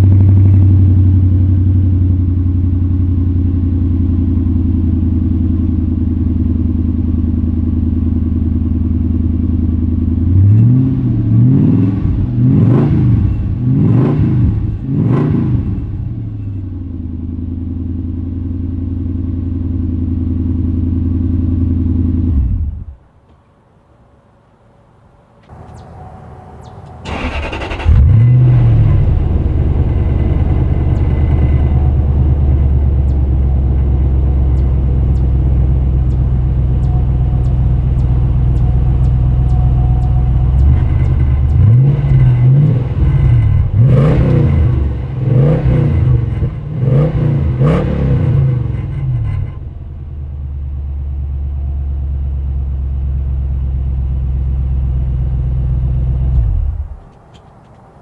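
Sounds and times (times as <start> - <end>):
car engine idling and revving: 0.0 - 23.0, 25.5 - 57.9.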